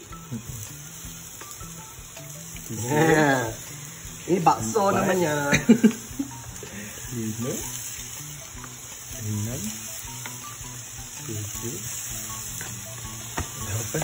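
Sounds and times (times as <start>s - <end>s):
meatballs sizzling in pan: 0.0s - 14.0s.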